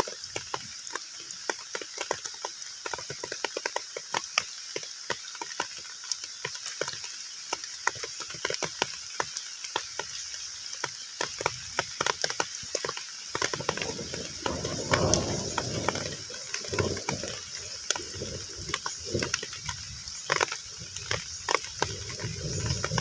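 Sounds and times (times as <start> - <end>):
rain on a pond: 0.0 - 23.0.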